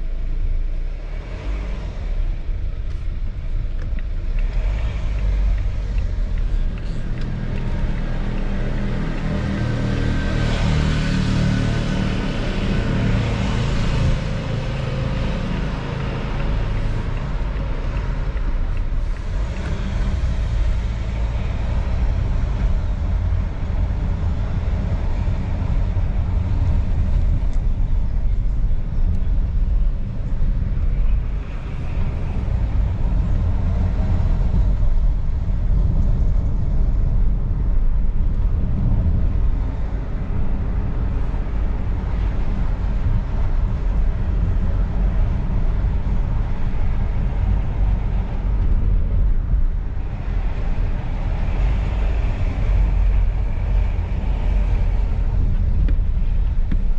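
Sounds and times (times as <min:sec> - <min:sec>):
diesel engine rumble: 0:00.0 - 0:56.9.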